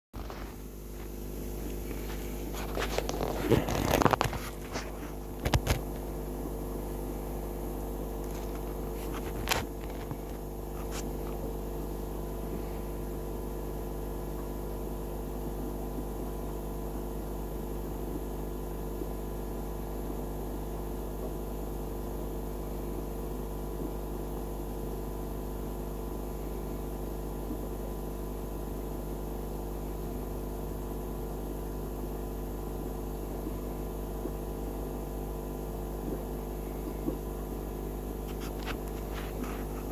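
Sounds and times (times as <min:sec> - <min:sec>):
low electrical hum: 0:00.2 - 0:39.9.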